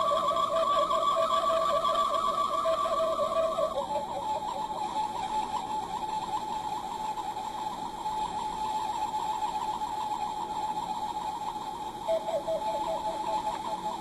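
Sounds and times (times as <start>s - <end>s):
rapidly pulsing electronic tone: 0.0s - 14.0s.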